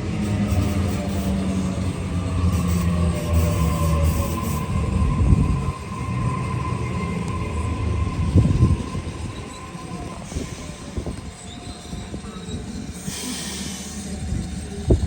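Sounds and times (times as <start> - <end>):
train rumbling on rails: 0.0 - 15.0
train wheels squealing: 0.0 - 15.0.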